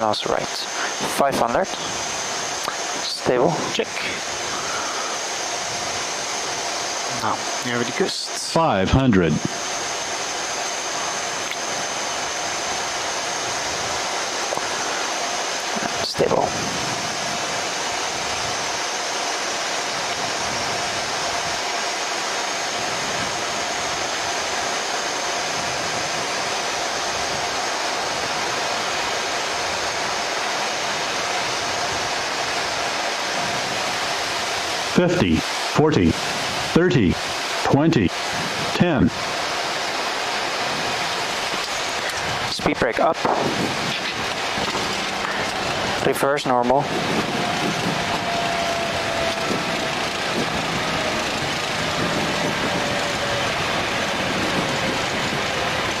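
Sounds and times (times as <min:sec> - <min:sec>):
aircraft engine noise: 0:00.0 - 0:56.0
airflow rushing in cockpit: 0:00.0 - 0:56.0
faint falling whine: 0:00.0 - 0:56.0.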